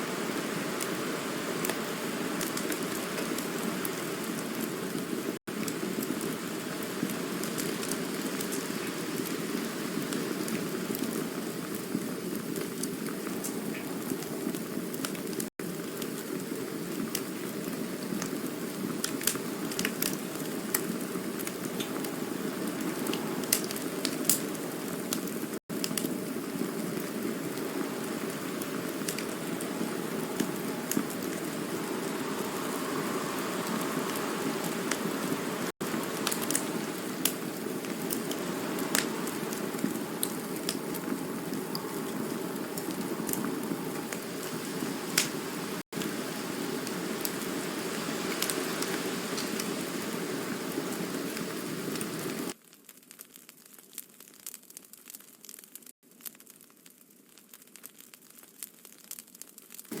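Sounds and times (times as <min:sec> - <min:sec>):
campfire crackling and popping: 0:00.0 - 1:00.0.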